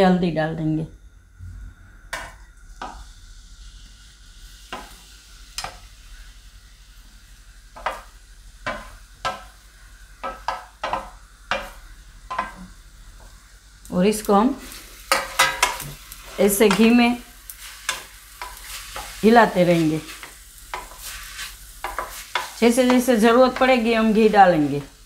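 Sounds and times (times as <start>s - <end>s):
faint sizzle: 0.0s - 25.0s.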